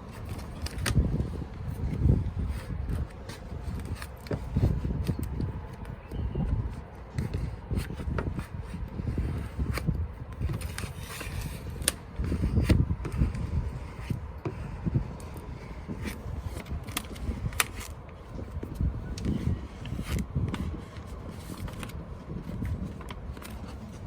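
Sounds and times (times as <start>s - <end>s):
squeegee scraping: 0.0s - 24.0s
wind on microphone: 0.0s - 24.0s.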